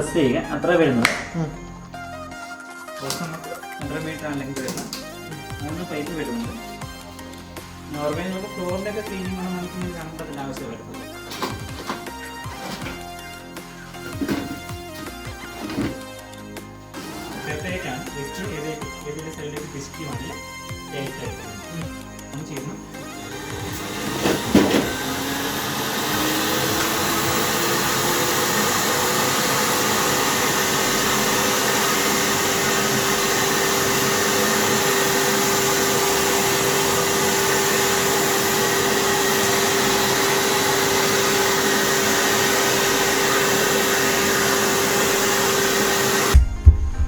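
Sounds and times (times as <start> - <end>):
vacuum cleaner motor whine: 0.0 - 46.8.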